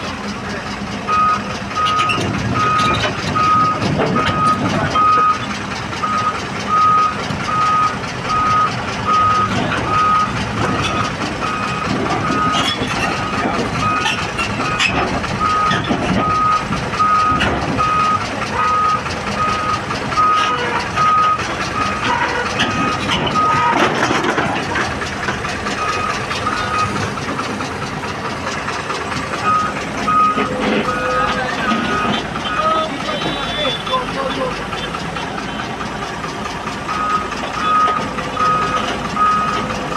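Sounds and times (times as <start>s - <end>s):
diesel engine noise: 0.0s - 39.9s.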